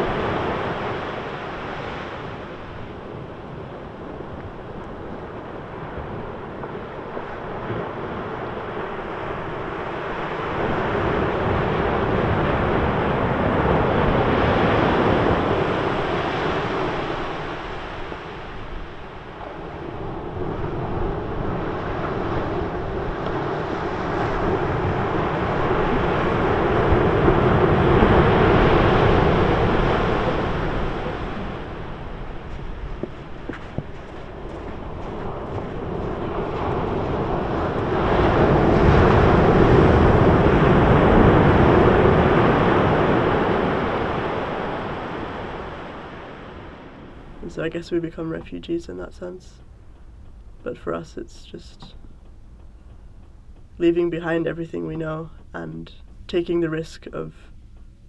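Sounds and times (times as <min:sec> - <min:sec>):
wind buffeting microphone: 0:00.0 - 0:48.7
sea waves washing: 0:00.0 - 0:52.1.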